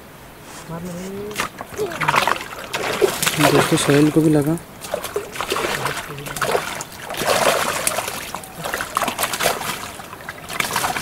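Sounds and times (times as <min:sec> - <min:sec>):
fish splashing at water surface: 0:01.3 - 0:11.0.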